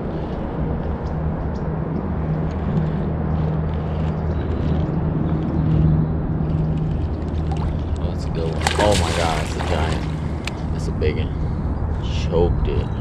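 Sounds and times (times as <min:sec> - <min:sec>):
low motor drone: 0:00.0 - 0:13.0.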